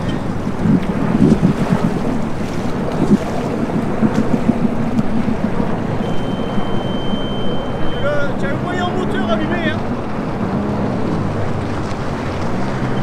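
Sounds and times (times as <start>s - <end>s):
personal watercraft engine rumble: 0.0s - 13.0s
wind buffeting microphone: 0.0s - 13.0s.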